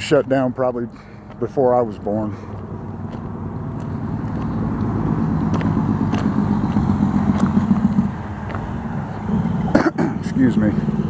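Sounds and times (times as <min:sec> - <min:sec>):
passing vehicle engine rumble: 0:00.0 - 0:11.0.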